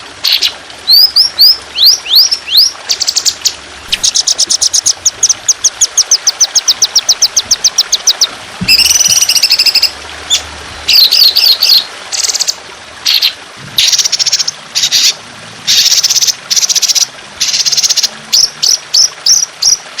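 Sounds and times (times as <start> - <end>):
trickling water: 0.0 - 20.0
songbird singing: 0.2 - 20.0.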